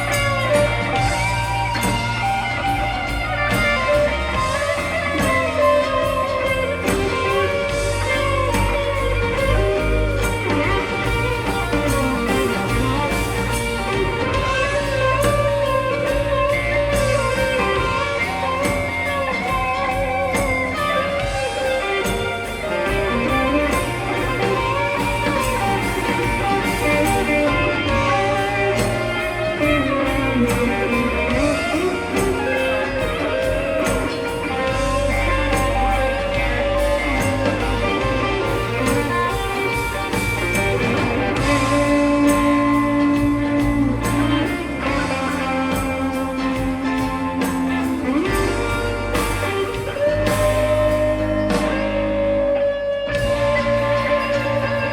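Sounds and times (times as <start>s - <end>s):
blues rock band: 0.0s - 54.9s
electric guitar lead: 0.0s - 54.9s.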